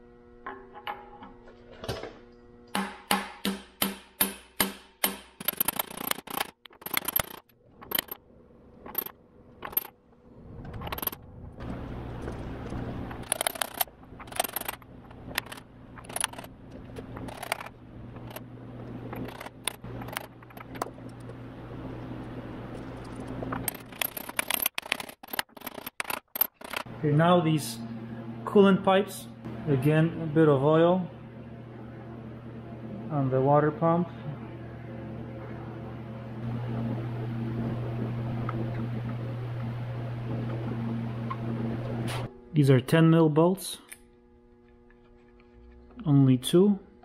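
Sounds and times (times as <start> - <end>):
low hum: 5.4 - 47.0.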